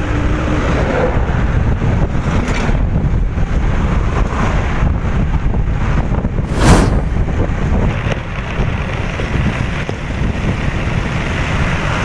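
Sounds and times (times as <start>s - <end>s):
wind buffeting microphone: 1.2s - 12.0s.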